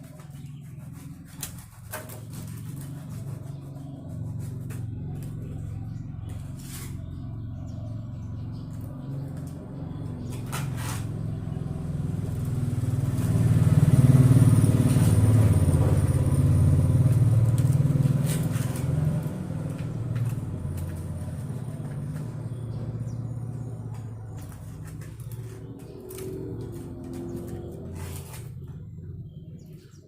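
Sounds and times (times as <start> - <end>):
vehicle engine passing by: 0.0 - 30.0.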